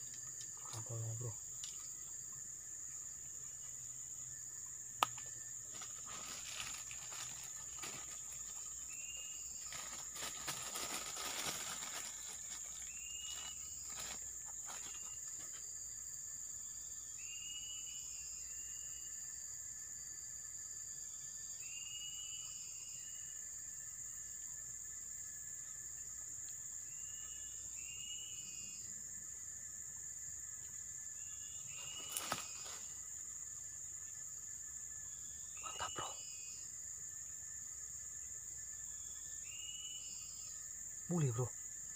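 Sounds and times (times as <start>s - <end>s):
high-pitched insect drone: 0.0s - 41.9s.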